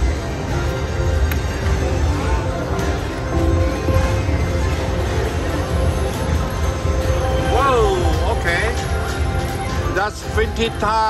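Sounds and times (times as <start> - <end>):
low din of casino floor: 0.0 - 11.0
slot machine music and reel sounds: 0.0 - 11.0.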